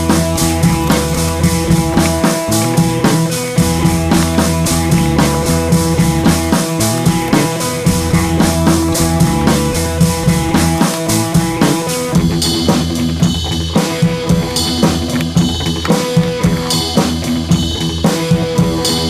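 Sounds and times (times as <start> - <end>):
bass guitar: 0.0 - 19.0
drum kit beat: 0.0 - 19.0
rock guitar: 0.0 - 19.0.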